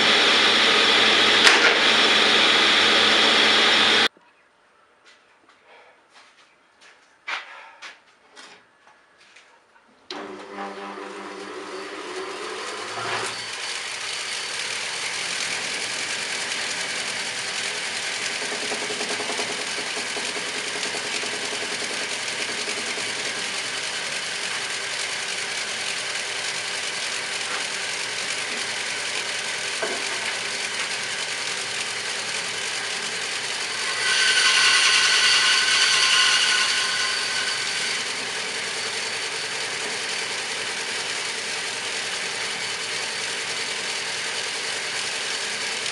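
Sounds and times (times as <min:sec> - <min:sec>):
power tool whirring hum: 0:00.0 - 0:04.1, 0:10.1 - 0:45.9.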